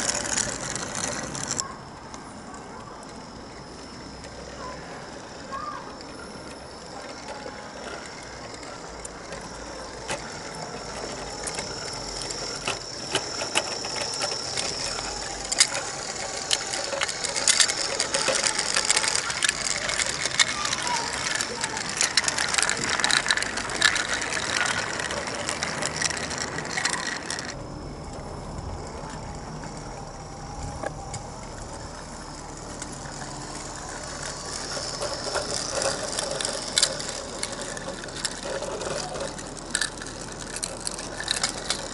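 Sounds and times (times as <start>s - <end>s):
model train clicking rattle: 0.0s - 1.7s, 2.5s - 41.9s.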